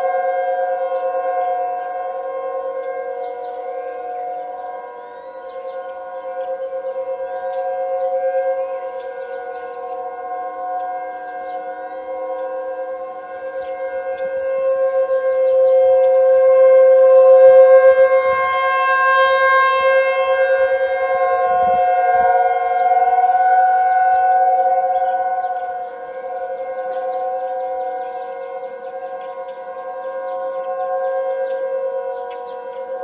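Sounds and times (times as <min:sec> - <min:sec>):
civil defense warning siren: 0:00.0 - 0:33.0.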